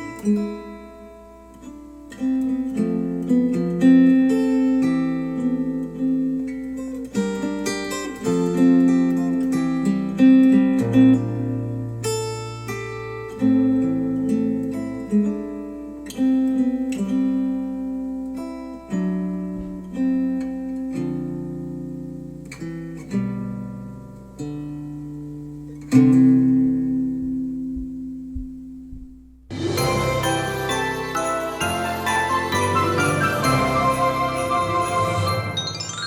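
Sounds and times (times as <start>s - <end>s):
acoustic guitar plucking: 0.0s - 36.0s.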